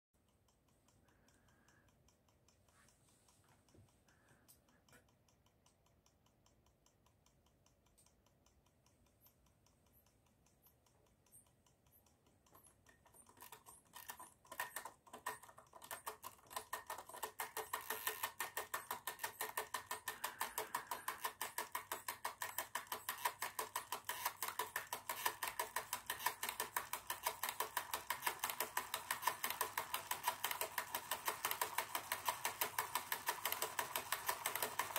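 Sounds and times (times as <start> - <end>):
mechanism clicking: 4.1 - 34.9.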